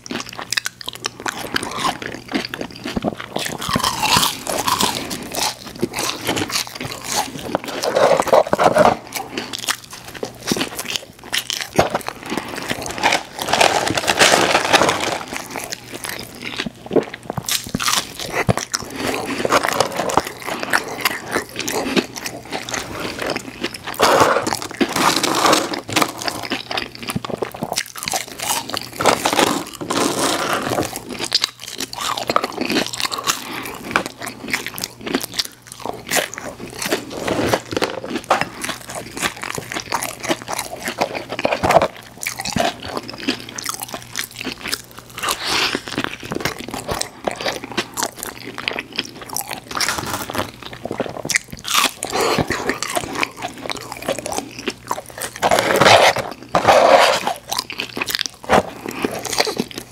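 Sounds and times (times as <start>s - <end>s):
crunchy biting and chewing: 0.0s - 59.9s.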